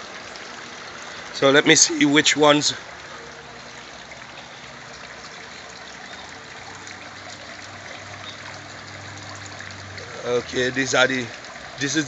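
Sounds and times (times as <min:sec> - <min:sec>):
water trickling into tank: 0:00.0 - 0:12.0.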